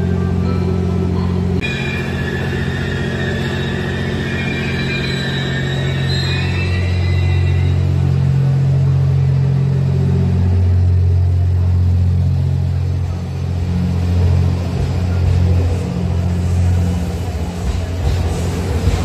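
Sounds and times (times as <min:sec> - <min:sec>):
train machinery drone: 0:00.0 - 0:19.0.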